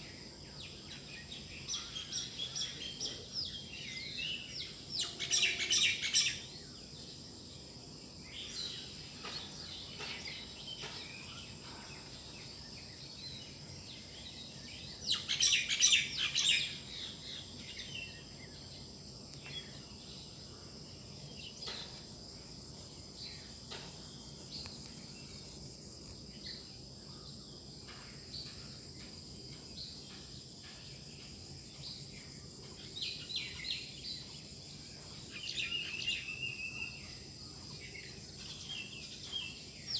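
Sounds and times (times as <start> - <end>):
songbirds chirping and singing: 0.1 - 39.9.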